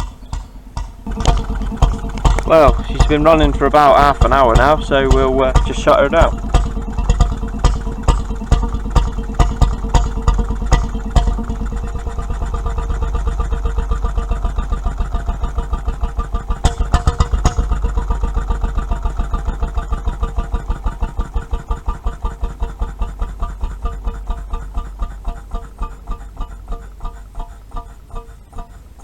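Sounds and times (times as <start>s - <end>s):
engine firing beats: 0.0s - 29.0s
engine running down on flywheels: 0.0s - 29.0s.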